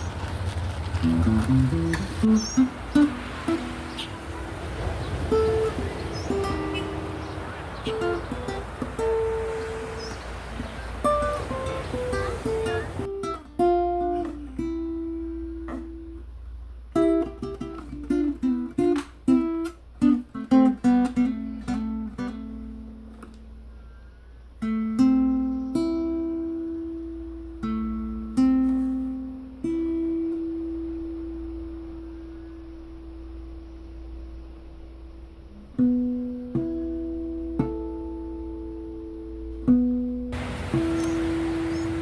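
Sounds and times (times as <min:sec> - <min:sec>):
acoustic guitar plucked: 0:01.0 - 0:42.0.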